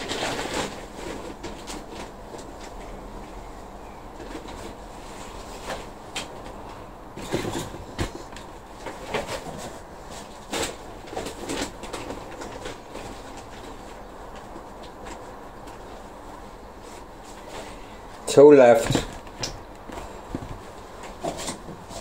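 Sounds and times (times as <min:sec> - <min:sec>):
compost rustling: 0:00.0 - 0:22.0.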